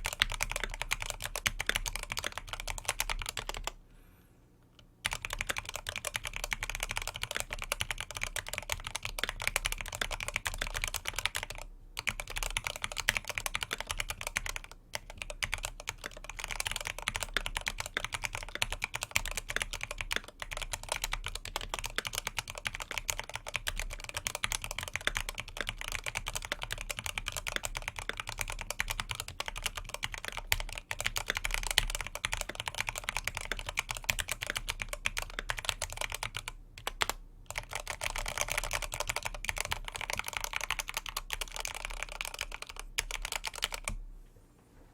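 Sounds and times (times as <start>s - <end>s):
fast typing on mechanical keyboard: 0.0s - 3.8s, 5.0s - 44.0s.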